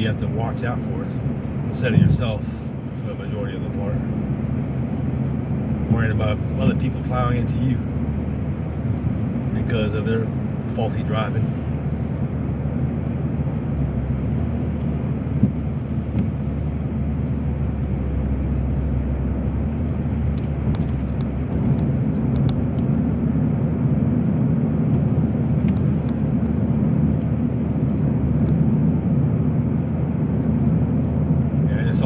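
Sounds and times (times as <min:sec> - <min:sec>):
car driving on wet road: 0:00.0 - 0:32.0.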